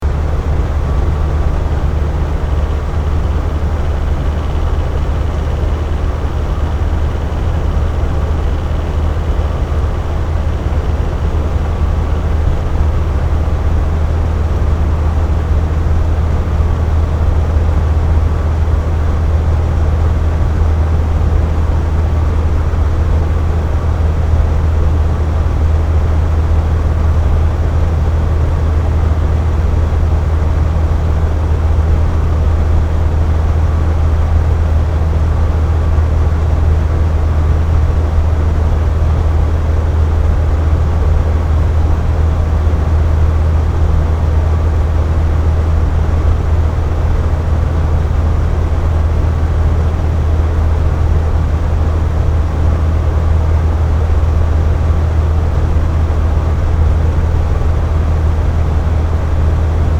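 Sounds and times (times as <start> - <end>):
air conditioner running: 0.0 - 59.9.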